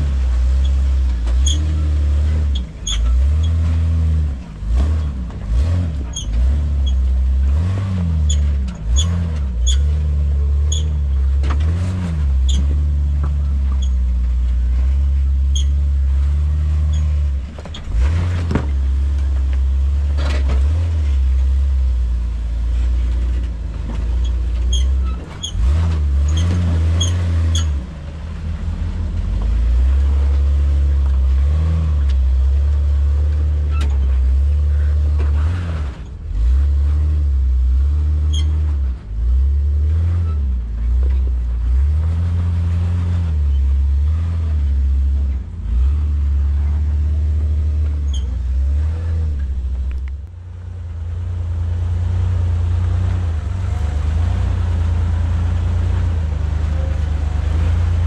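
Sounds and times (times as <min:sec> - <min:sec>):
engine revving at low revs: 0:00.0 - 0:58.0.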